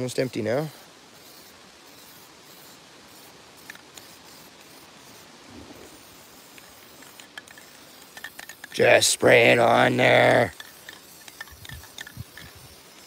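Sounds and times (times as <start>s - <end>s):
spray paint can hissing: 1.2s - 13.0s.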